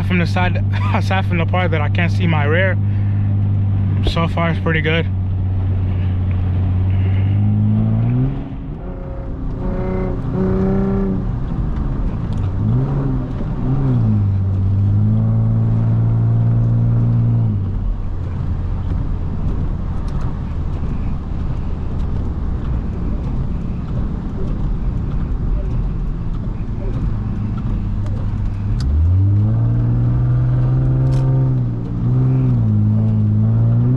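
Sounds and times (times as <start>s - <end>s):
car engine revving: 0.0s - 33.9s
road and tyre noise: 0.0s - 33.9s.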